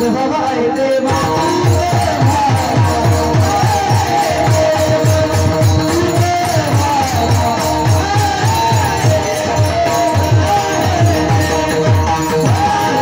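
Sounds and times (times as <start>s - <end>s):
jingling percussion: 0.0s - 13.0s
drum beating quickly: 1.1s - 13.0s.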